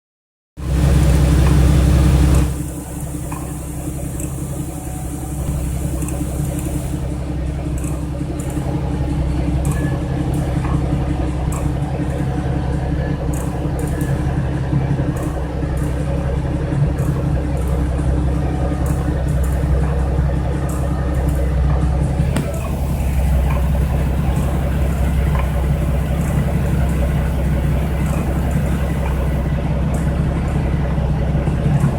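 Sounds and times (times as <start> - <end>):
car engine running: 0.6 - 31.9.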